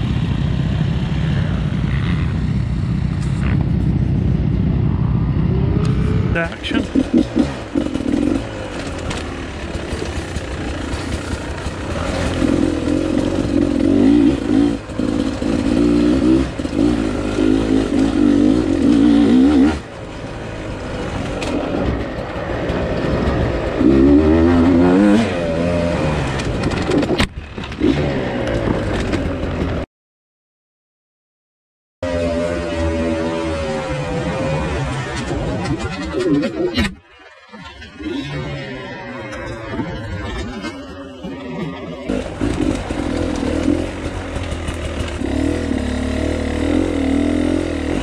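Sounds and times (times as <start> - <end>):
dirt bike engine revving: 4.6 - 29.8, 32.0 - 36.7, 37.6 - 48.0.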